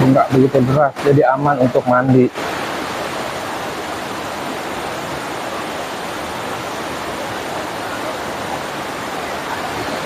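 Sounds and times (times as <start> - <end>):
stream flowing over rocks: 0.0 - 10.0.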